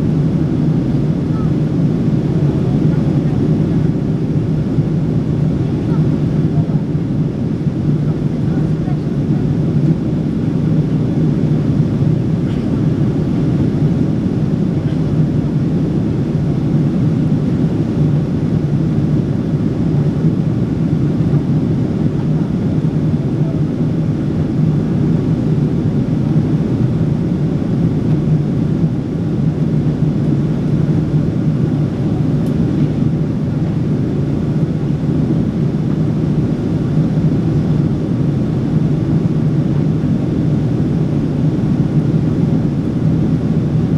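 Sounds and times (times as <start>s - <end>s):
airplane cabin drone: 0.0s - 43.9s.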